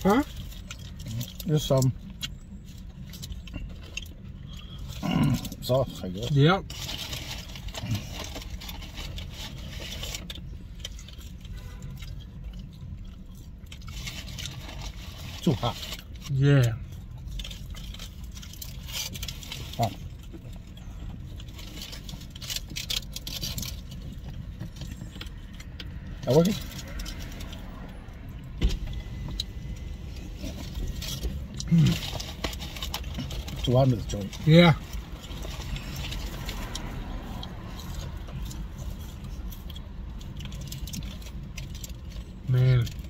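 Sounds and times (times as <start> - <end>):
low in-car hum: 0.0 - 43.0
food packaging clicks and crinkles: 0.1 - 5.8, 6.6 - 43.0.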